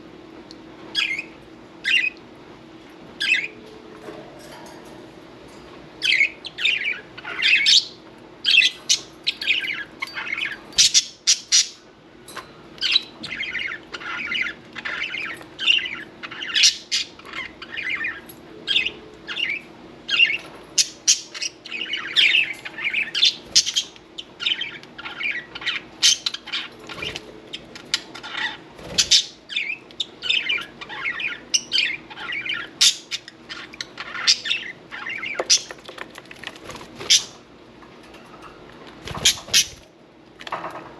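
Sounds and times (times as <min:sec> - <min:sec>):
budgerigars chirping and squawking: 0:00.9 - 0:02.2, 0:03.2 - 0:03.7, 0:06.0 - 0:11.8, 0:12.8 - 0:37.5, 0:39.0 - 0:39.9.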